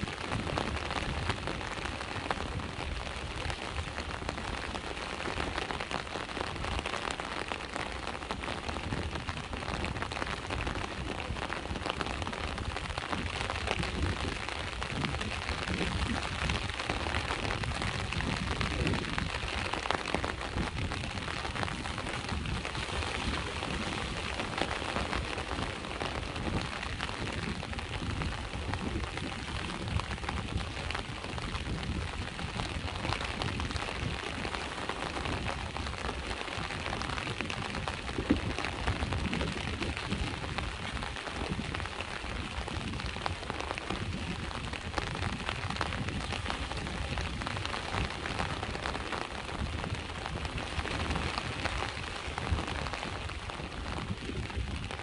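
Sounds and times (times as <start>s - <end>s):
rain falling: 0.0s - 55.0s
sea waves washing on shore: 0.0s - 55.0s.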